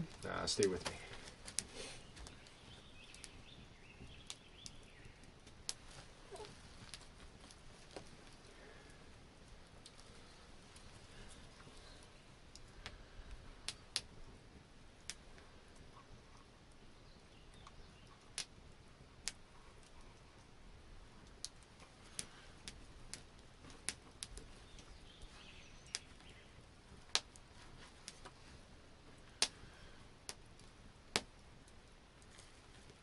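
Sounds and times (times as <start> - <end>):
faint steady background noise: 0.0 - 33.0.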